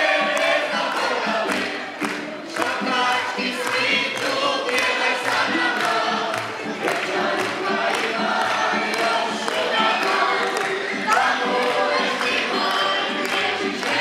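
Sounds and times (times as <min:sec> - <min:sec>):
choir singing folk song: 0:00.0 - 0:14.0.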